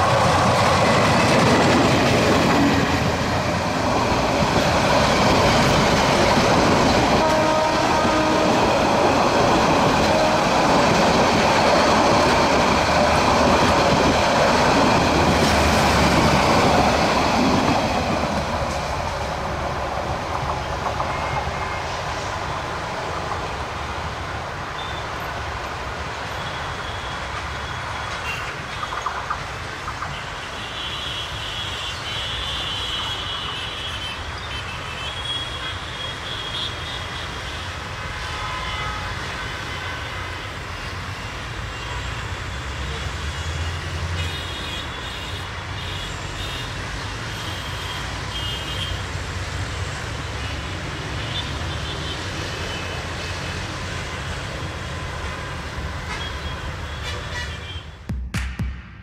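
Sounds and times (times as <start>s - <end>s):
train coaches rumbling past: 0.0s - 58.1s.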